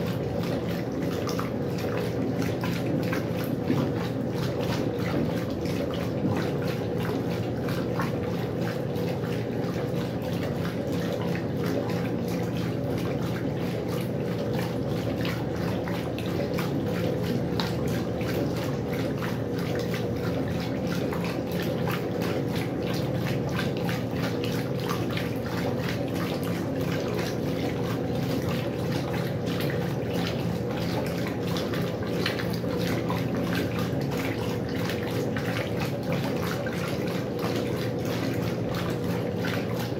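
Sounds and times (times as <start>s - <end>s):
washing machine motor hum: 0.0s - 39.9s
water splashing and churning: 0.0s - 39.9s.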